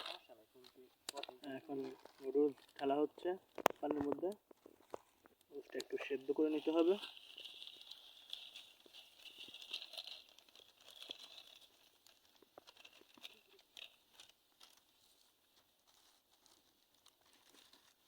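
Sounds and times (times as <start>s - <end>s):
faint crackles and ticks: 0.0s - 18.0s.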